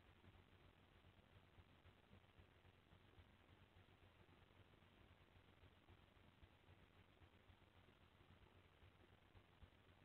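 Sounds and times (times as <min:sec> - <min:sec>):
faint background hiss: 0:00.0 - 0:10.0
low hum: 0:00.0 - 0:10.0.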